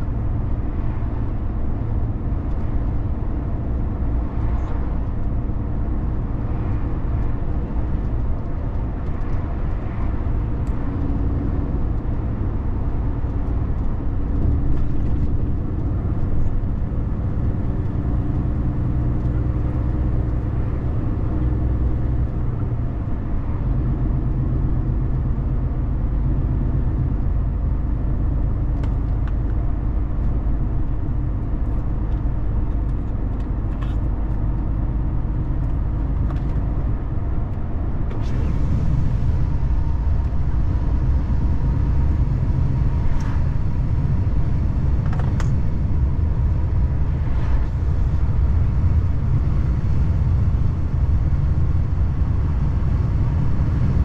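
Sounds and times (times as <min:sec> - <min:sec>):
low engine hum: 0:00.0 - 0:54.0.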